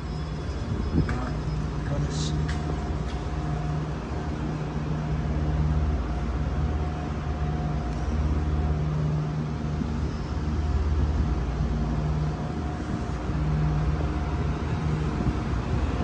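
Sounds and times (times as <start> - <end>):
vehicle engine drone: 0.0 - 16.0.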